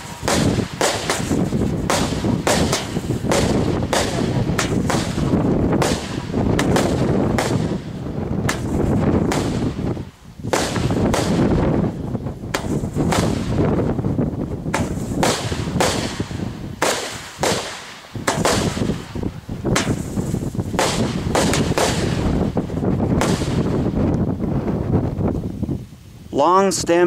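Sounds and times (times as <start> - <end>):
dense rumbling noise: 0.0 - 16.8, 18.3 - 25.9
fireworks bangs and cracks: 0.0 - 25.4.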